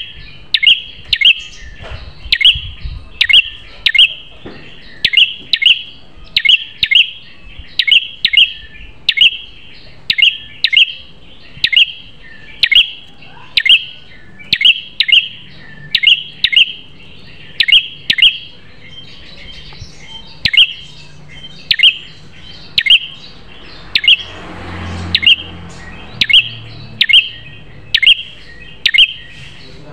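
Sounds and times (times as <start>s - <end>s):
songbird chirping: 0.0s - 29.9s.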